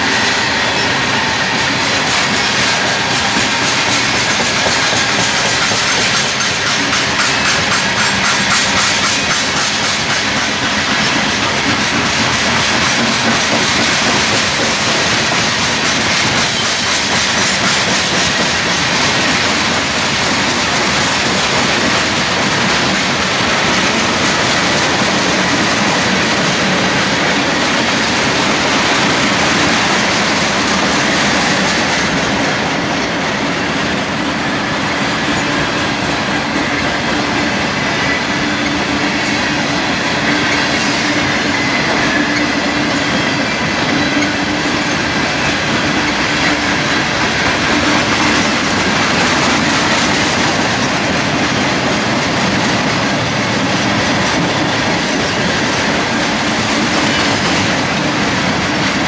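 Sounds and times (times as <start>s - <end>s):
train wheels clattering over rails: 0.0s - 59.0s.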